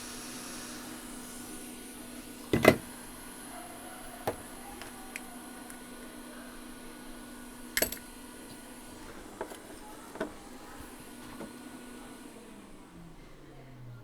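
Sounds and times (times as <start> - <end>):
hot air blower hum and hiss: 0.0 - 14.0.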